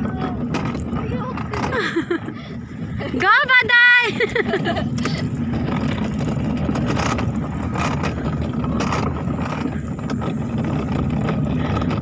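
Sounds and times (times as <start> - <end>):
cart rattles: 0.0 - 12.0
cart wheels rumbling on asphalt: 0.0 - 12.0.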